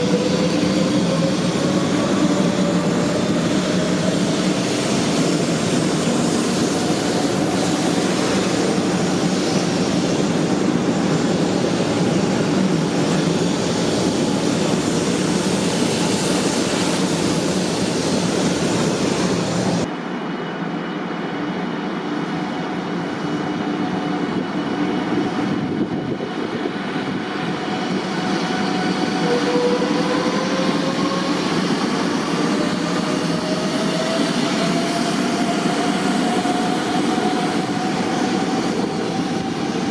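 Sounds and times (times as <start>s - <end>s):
rising train tones: 0.0s - 39.9s
train rushing past: 0.0s - 39.9s
train steady whine: 0.0s - 39.9s.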